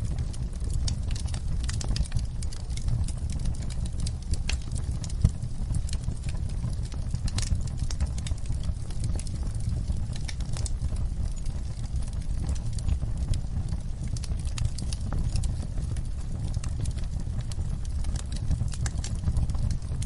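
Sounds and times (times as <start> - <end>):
fire crackling and popping: 0.0 - 20.0
low rumble of fire: 0.0 - 20.0.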